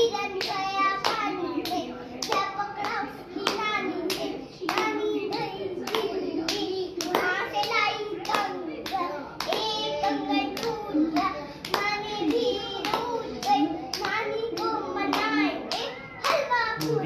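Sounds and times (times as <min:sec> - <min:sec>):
girl singing: 0:00.0 - 0:17.0
hands clapping in rhythm: 0:00.0 - 0:17.0.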